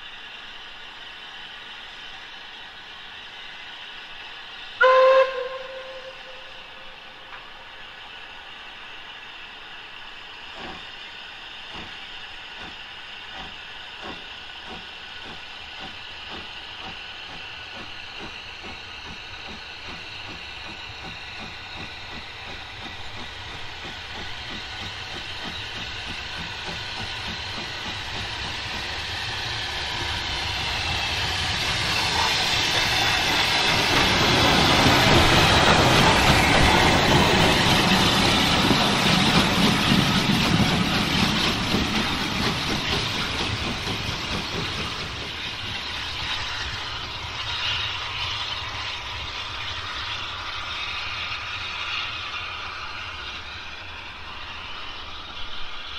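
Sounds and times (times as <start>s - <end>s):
steam hissing: 0.0s - 55.9s
steam locomotive exhaust beats: 0.0s - 55.9s.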